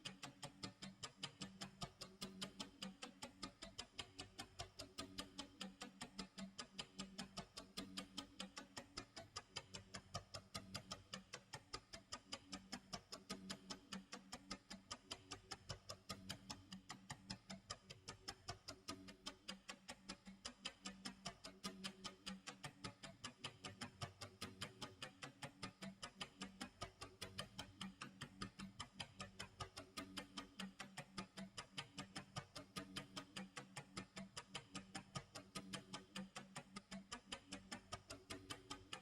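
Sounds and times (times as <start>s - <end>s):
clock ticking: 0.0s - 39.0s.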